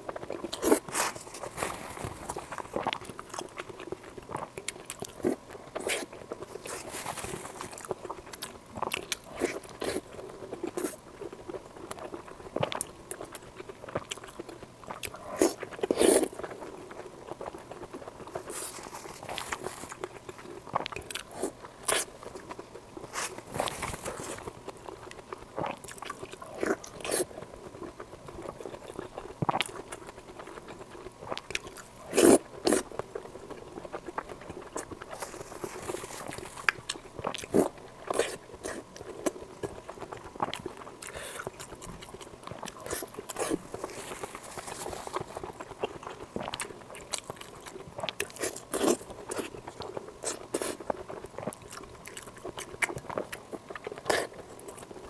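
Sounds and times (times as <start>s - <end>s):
biting and chewing: 0.0s - 55.0s.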